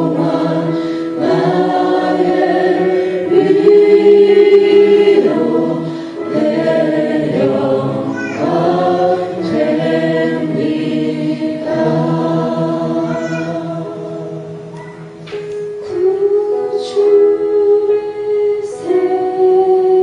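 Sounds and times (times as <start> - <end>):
group singing worship song: 0.0 - 20.0.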